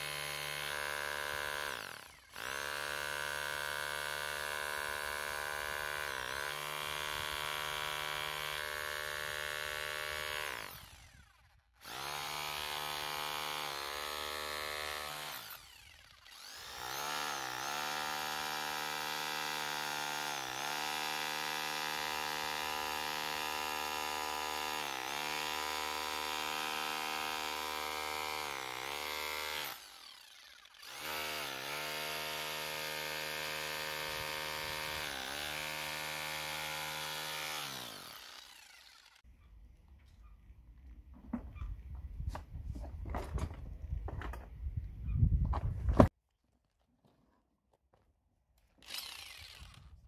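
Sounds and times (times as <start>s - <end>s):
rotary hammer drilling into concrete: 0.0s - 39.3s, 48.8s - 50.0s.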